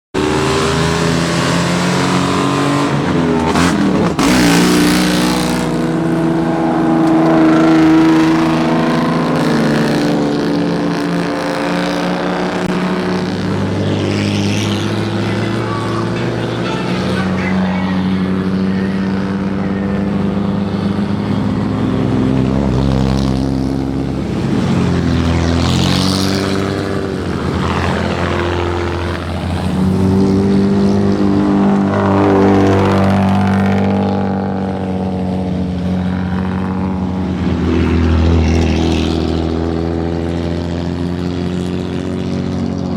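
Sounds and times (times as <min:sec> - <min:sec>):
car engines revving: 0:00.1 - 0:42.9.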